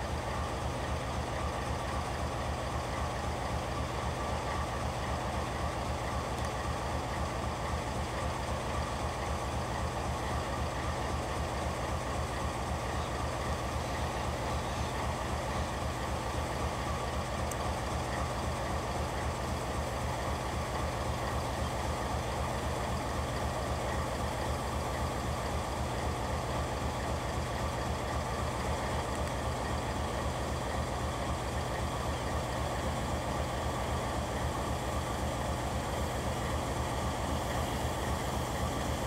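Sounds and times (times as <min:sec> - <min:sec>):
diesel locomotive engine throbbing: 0:00.0 - 0:39.0.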